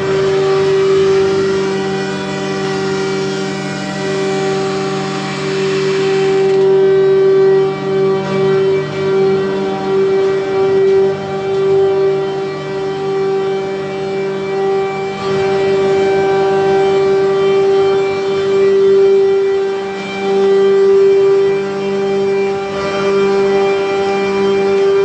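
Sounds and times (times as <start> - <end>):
loud steady drone: 0.0 - 25.0.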